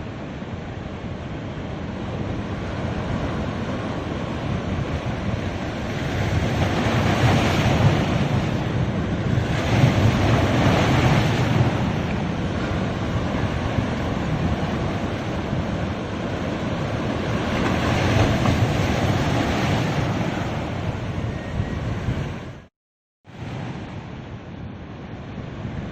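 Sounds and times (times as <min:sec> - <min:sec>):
sea waves breaking on a beach: 0:00.0 - 0:22.7, 0:23.3 - 0:25.9
wind rumbling on microphone: 0:00.0 - 0:22.7, 0:23.3 - 0:25.9.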